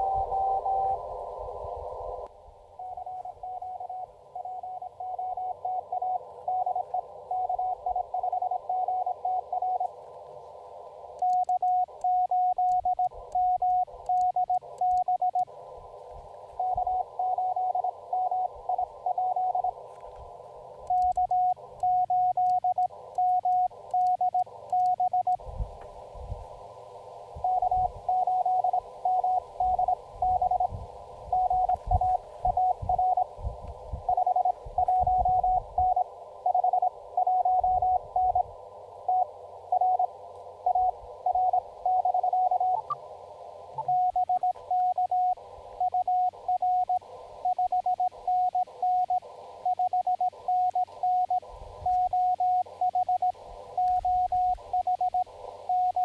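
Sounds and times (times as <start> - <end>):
morse code tones: 0.0 - 1.0, 2.8 - 9.9, 11.2 - 15.4, 16.6 - 19.8, 20.9 - 25.4, 27.4 - 30.7, 31.3 - 33.3, 34.1 - 38.5, 39.1 - 43.0, 43.7 - 56.0
radio static hiss: 0.0 - 56.0.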